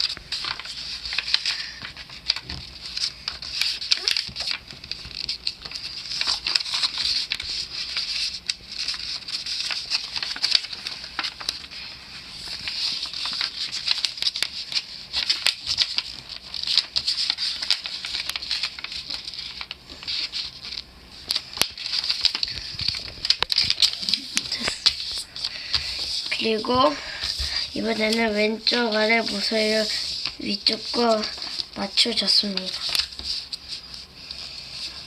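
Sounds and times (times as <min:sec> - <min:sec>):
paper rustling and crinkling: 0:00.0 - 0:35.0.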